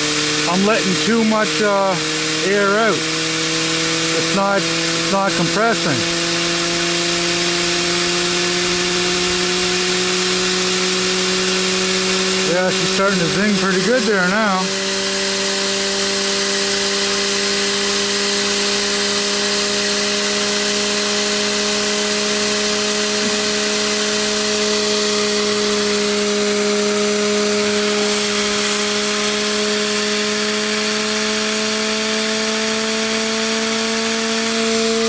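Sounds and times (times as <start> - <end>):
turbine whine: 0.0 - 35.0.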